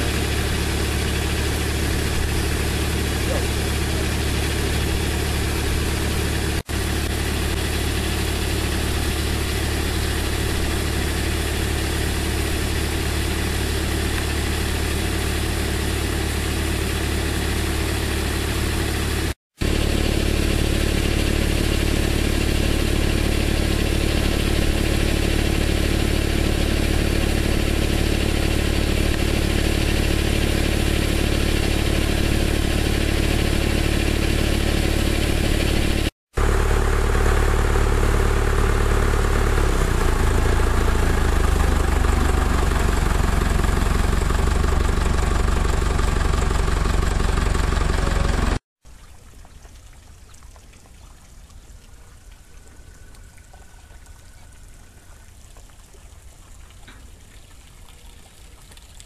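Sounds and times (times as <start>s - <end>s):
low machine hum: 0.0s - 48.6s.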